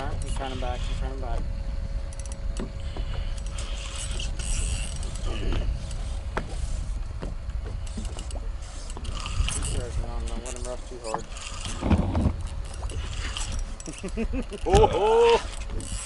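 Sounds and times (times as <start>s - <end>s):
fishing reel clicking and whirring: 0.0s - 1.4s, 2.0s - 6.4s, 7.7s - 16.0s
low steady rumble: 0.0s - 16.0s.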